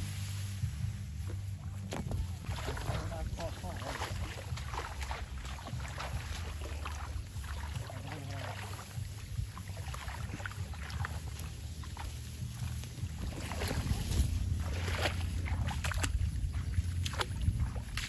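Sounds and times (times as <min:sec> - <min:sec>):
plants and grass rustling: 0:00.0 - 0:18.0
wind rumbling on microphone: 0:00.0 - 0:18.0.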